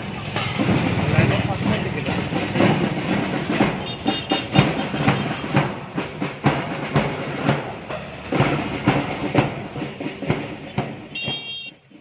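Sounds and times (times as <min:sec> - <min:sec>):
bass drum beats: 0:00.0 - 0:12.0
marching band drums: 0:00.0 - 0:12.0.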